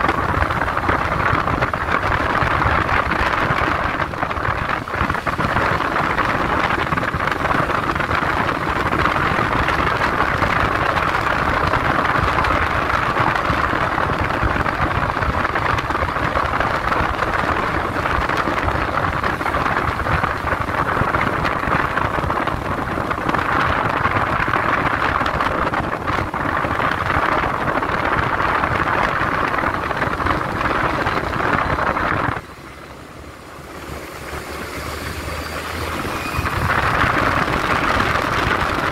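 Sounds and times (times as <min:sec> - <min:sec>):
motorcycle road noise: 0:00.0 - 0:38.9
wind noise on microphone: 0:00.0 - 0:38.9.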